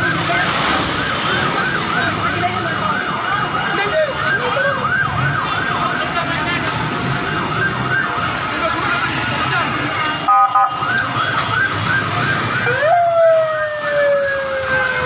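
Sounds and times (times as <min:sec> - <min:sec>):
emergency sirens yelping: 0:00.0 - 0:15.0
traffic rumble and commotion: 0:00.0 - 0:15.0.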